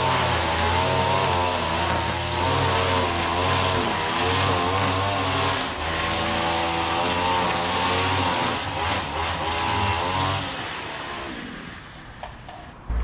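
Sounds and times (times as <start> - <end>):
lawn mower engine running: 0.0 - 11.2.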